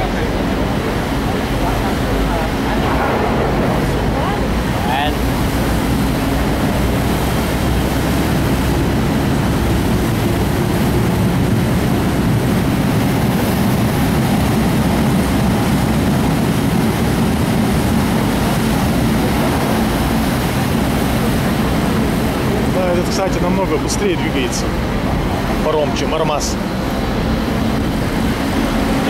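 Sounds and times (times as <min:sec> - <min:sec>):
ship engines rumbling: 0:00.0 - 0:29.0
water churning: 0:00.0 - 0:29.0.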